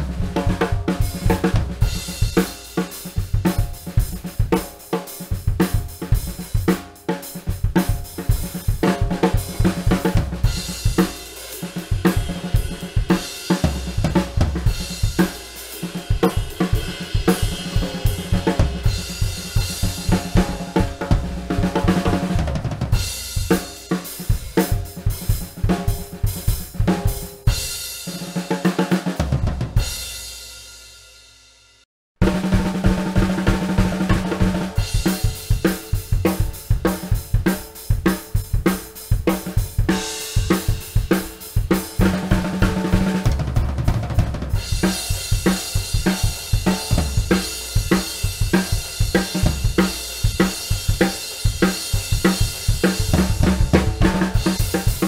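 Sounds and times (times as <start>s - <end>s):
bass drum: 0.0s - 4.6s, 7.5s - 27.8s, 29.2s - 30.1s, 32.2s - 55.0s
snare drum: 0.0s - 30.2s, 32.2s - 55.0s.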